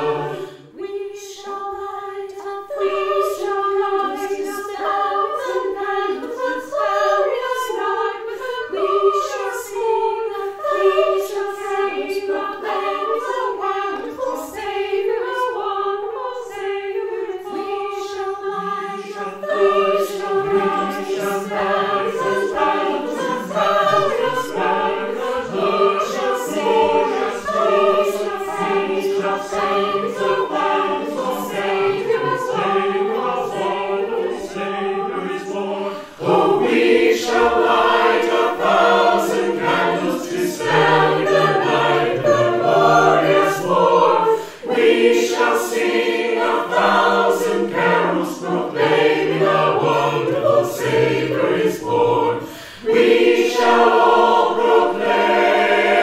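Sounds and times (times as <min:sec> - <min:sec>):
choir singing a carol: 0:00.0 - 0:56.0.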